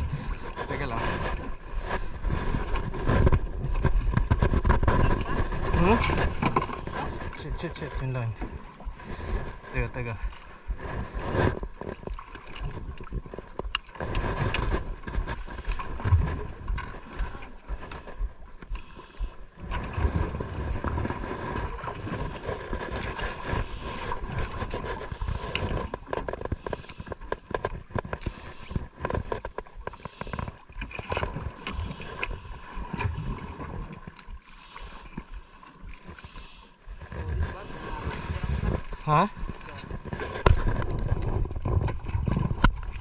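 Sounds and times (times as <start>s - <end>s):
water noise: 0.0s - 43.0s
wind: 0.0s - 43.0s.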